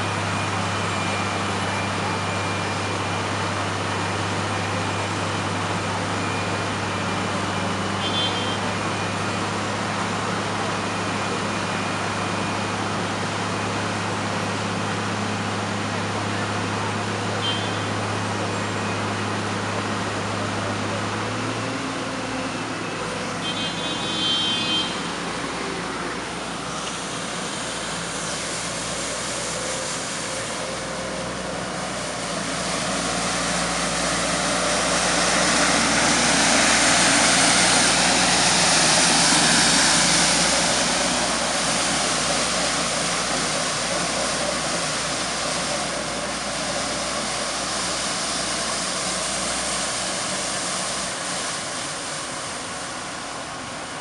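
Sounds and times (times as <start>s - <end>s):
heavy vehicle engine running: 0.0s - 54.0s.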